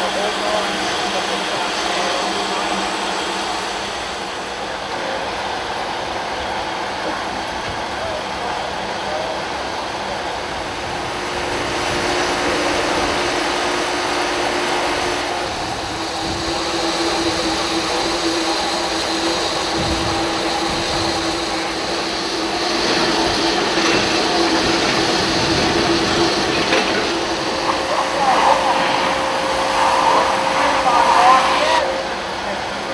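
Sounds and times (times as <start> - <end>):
steam hissing from locomotive: 0.0 - 32.9.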